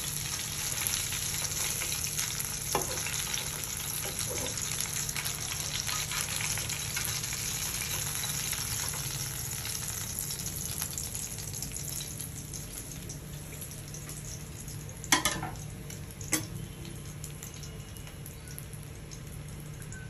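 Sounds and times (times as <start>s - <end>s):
oil sizzling around frying fish: 0.0s - 20.0s.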